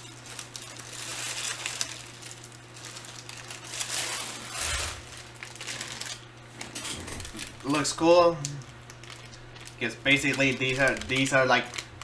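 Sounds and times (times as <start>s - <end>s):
candy packaging crinkling: 0.0s - 12.0s
low electrical hum: 0.0s - 12.0s.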